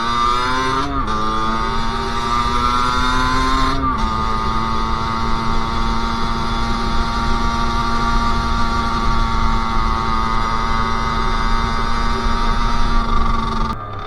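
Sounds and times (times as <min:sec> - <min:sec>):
two-stroke engine revving high: 0:00.0 - 0:14.0.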